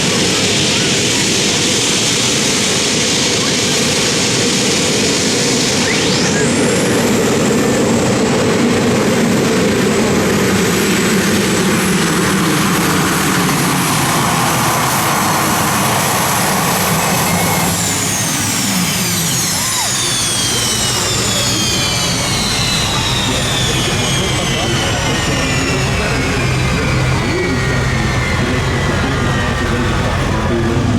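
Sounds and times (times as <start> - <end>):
pulling tractor engines at full power: 0.0 - 30.9
high whine falling in pitch: 2.8 - 30.9.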